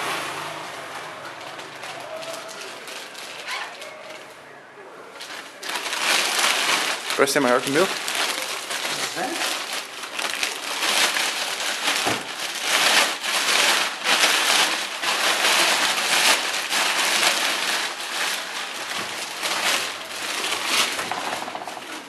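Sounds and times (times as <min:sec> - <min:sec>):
plastic bag crinkling: 0:00.2 - 0:04.4, 0:05.0 - 0:22.0.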